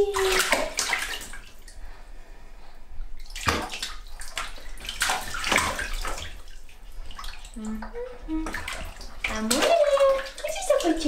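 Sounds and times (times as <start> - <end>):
water splashing in baby bath: 0.0 - 1.8, 3.2 - 11.0.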